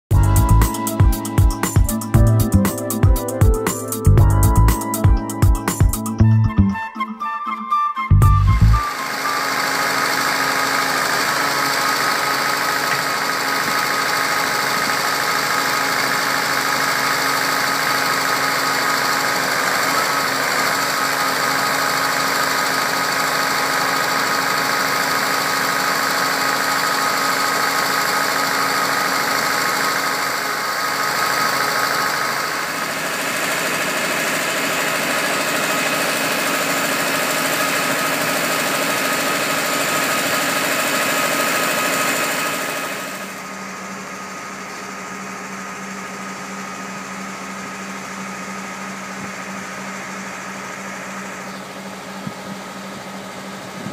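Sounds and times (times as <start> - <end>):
constant machine whine: 8.4 - 53.9
hydraulic machine engine running: 8.6 - 53.9.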